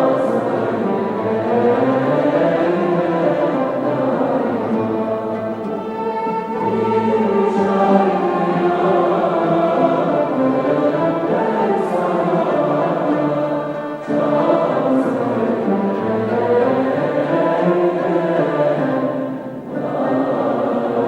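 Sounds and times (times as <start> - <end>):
choir singing sustained notes: 0.0 - 21.0
instrumental music: 0.0 - 21.0.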